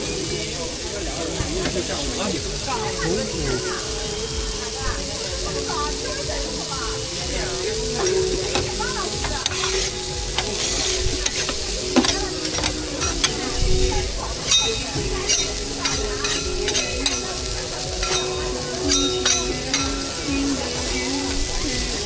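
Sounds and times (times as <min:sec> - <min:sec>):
burger patties sizzling on griddle: 0:00.0 - 0:22.0.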